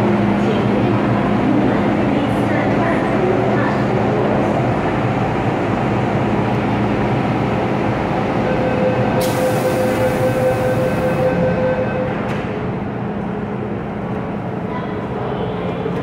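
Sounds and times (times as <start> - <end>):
train running with whine: 0.0 - 16.0.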